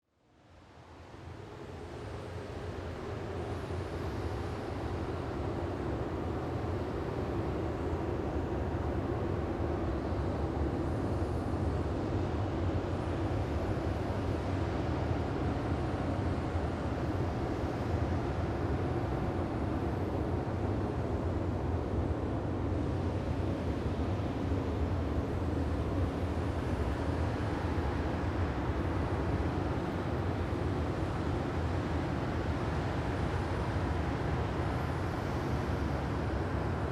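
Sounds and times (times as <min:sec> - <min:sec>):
low windy drone: 0:01.3 - 0:36.9.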